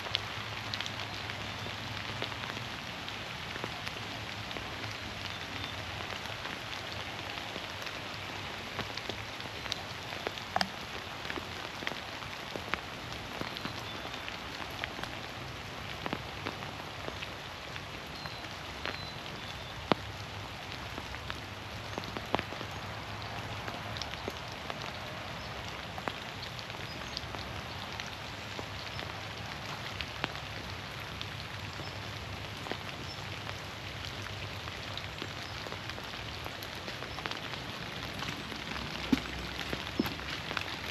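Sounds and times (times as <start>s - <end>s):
rain falling through trees: 0.0s - 40.9s.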